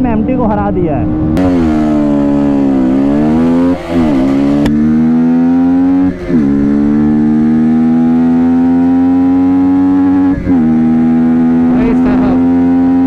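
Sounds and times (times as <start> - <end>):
motorcycle engine at full throttle: 0.0 - 13.0
wind rushing: 0.8 - 12.0.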